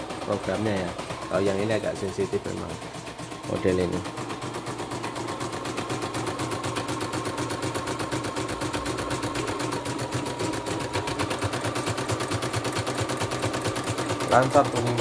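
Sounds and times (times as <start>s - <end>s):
embroidery machine needle clatter: 0.0s - 15.0s.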